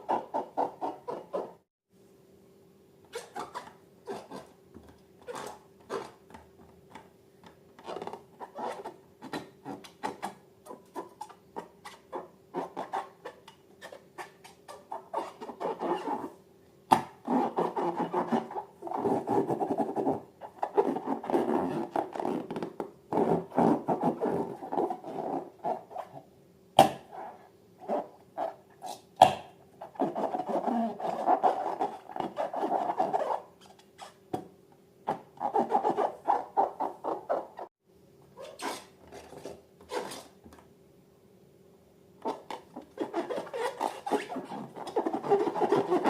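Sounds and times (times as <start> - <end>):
faint steady hum: 1.9 - 46.0.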